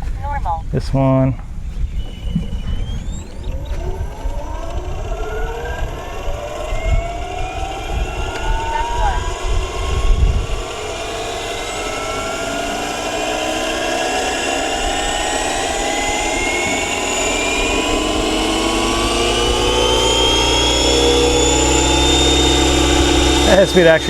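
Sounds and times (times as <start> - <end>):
helicopter rotor noise: 1.3 - 24.0
rc helicopter motor whine: 1.4 - 24.0.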